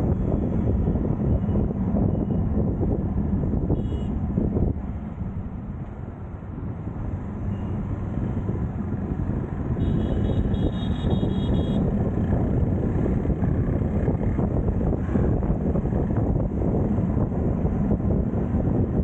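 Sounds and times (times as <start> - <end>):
wind on microphone: 0.0 - 5.8, 8.0 - 19.0
low rumble of traffic: 0.0 - 19.0.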